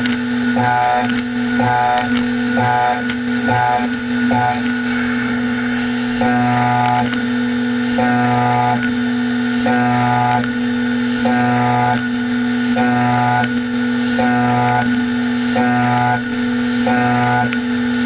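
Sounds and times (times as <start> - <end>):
ringing metal cutting tone: 0.0 - 17.6
machine spindle hum: 0.0 - 18.0.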